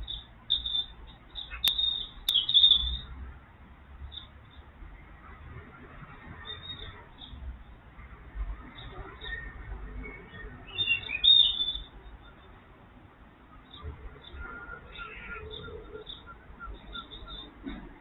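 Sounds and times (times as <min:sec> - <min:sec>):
small birds chirping: 0:00.0 - 0:03.3, 0:04.0 - 0:05.4, 0:06.0 - 0:18.0.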